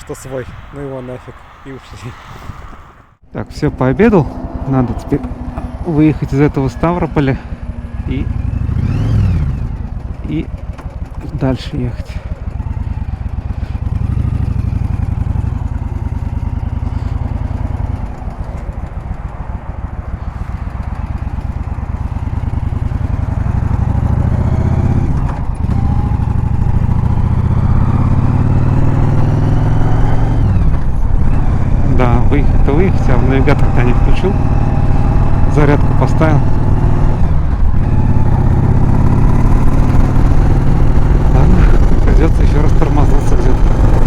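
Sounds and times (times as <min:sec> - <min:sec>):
wind and road noise: 0:00.0 - 0:44.0
motorcycle engine accelerating: 0:03.2 - 0:44.0.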